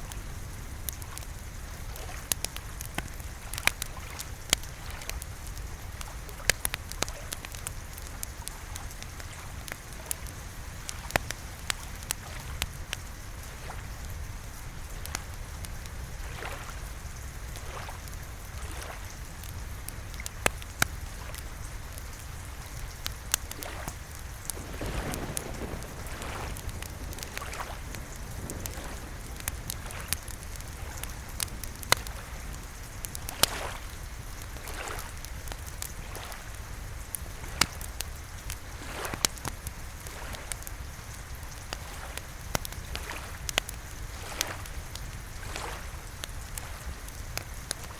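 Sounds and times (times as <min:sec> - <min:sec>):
steady rain hiss: 0:00.0 - 0:47.9
wood fire crackling: 0:00.0 - 0:47.9.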